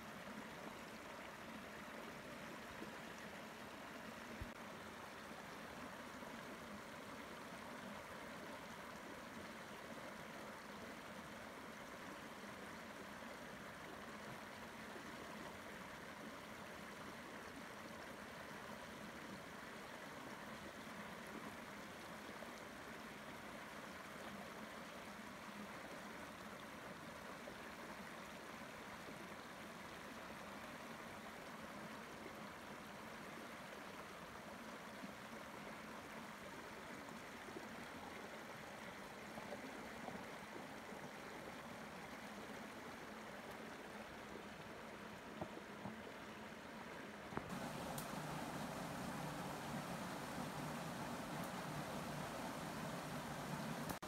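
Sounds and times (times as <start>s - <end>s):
stream flowing over rock: 0.0s - 54.0s.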